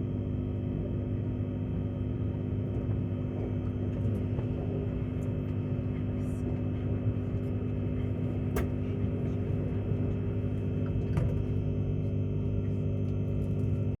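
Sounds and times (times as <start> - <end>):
train interior drone: 0.0 - 14.0.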